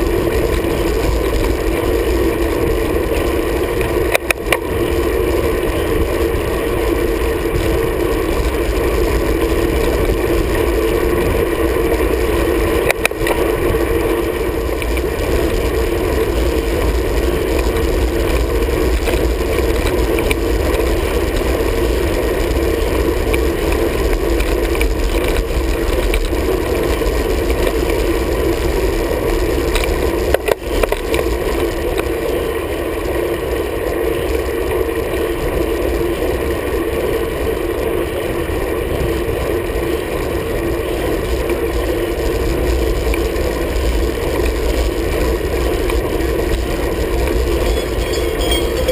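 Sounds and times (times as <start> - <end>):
bike tyre and drivetrain noise: 0.0 - 48.9.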